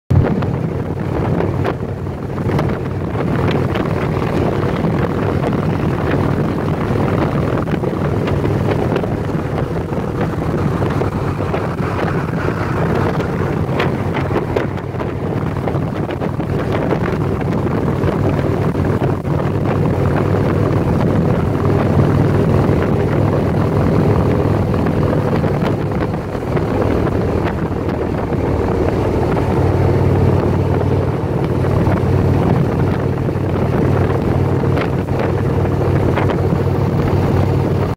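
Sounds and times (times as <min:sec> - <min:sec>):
motorcycle engine running: 0:00.1 - 0:37.9
wind noise on microphone: 0:00.1 - 0:37.9.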